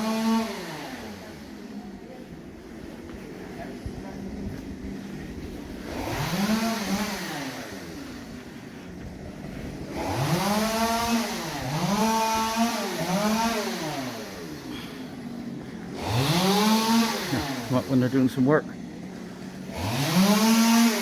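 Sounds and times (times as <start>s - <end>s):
small petrol engine revving: 0.0s - 21.0s.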